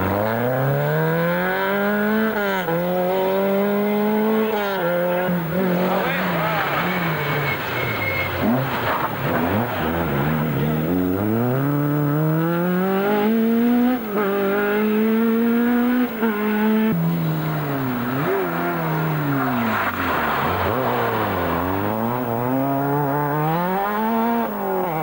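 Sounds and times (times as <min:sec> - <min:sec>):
rally car engine accelerating: 0:00.0 - 0:25.0
second rally car engine: 0:00.0 - 0:25.0.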